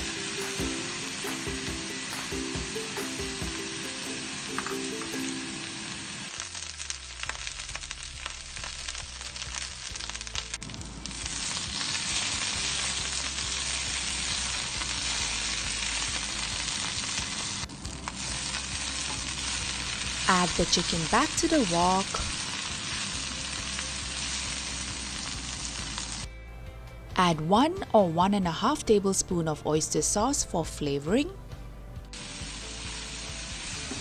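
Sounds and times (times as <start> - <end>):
vegetables sizzling in hot oil: 0.0 - 26.3, 32.2 - 34.0.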